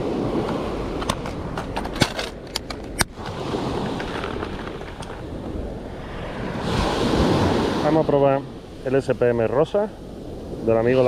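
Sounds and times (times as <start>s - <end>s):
waves washing on rocky shore: 0.0s - 11.0s
wind on microphone: 0.0s - 11.0s.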